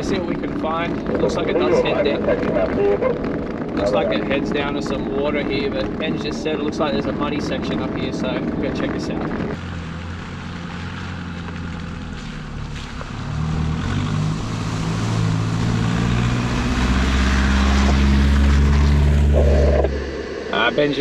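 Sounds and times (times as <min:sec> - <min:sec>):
tyres churning through mud: 0:00.0 - 0:21.0
vehicle engine passing by: 0:00.0 - 0:21.0.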